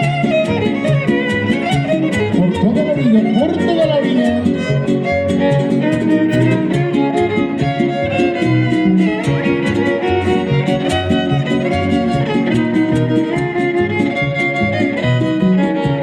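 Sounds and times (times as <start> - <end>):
strummed guitars: 0.0 - 16.0
violin melody: 0.0 - 16.0.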